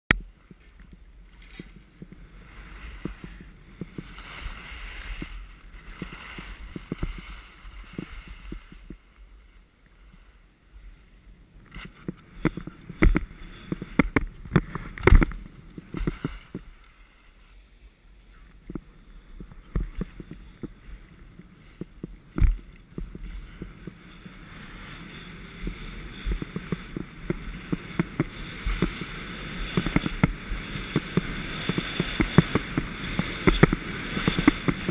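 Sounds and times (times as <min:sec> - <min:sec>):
skis scraping over snow: 0:00.3 - 0:34.9.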